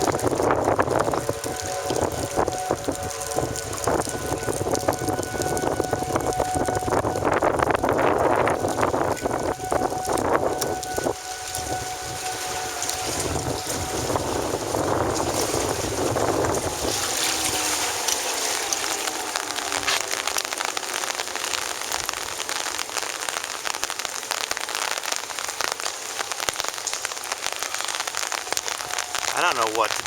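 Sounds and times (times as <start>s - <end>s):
distant warning siren: 0.0s - 30.0s
heavy rain falling: 0.0s - 30.0s
wind gusting on microphone: 0.0s - 30.0s.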